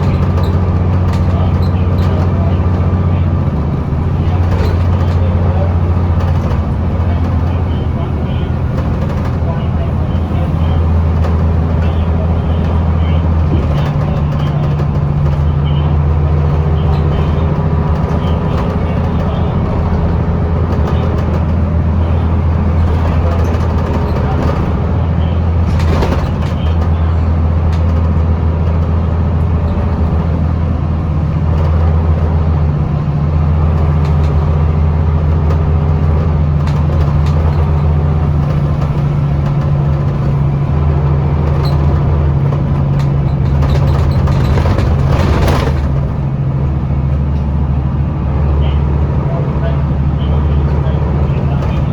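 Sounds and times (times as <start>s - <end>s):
bus engine droning: 0.0s - 51.9s.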